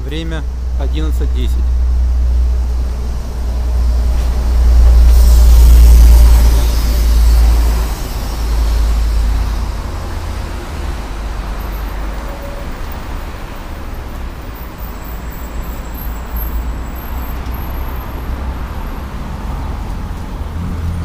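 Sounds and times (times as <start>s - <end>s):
vehicle passing close: 0.0s - 12.2s, 13.0s - 21.0s
traffic rumble: 0.0s - 21.0s.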